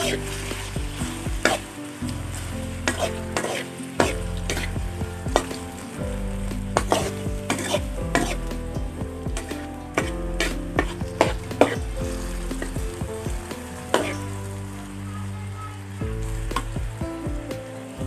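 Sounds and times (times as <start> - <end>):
pork sizzling in hot oil: 0.0 - 18.0.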